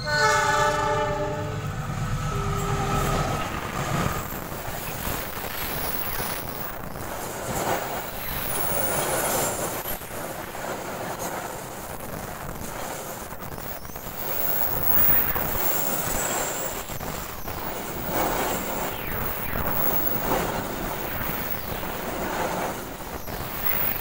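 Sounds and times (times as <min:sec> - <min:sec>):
freight train wheels rattling on rails: 0:00.0 - 0:24.0.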